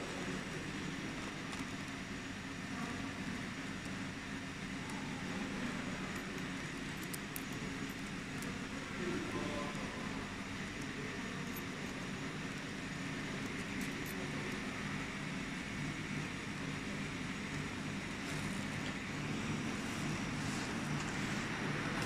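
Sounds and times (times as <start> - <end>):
machinery hum and fan noise: 0.0 - 22.0.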